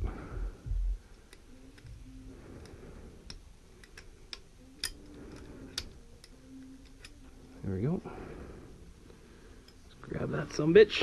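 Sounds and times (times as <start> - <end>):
low fumbling noise: 0.0 - 11.0.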